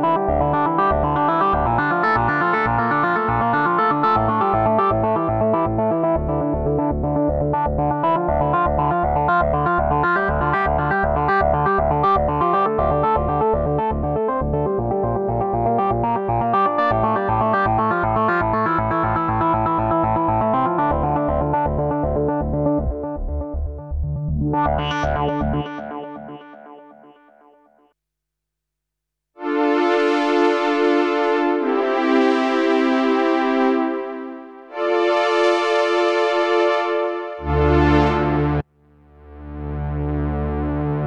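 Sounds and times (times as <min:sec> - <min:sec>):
synthesizer chords: 0:00.0 - 0:27.4, 0:29.4 - 0:41.0.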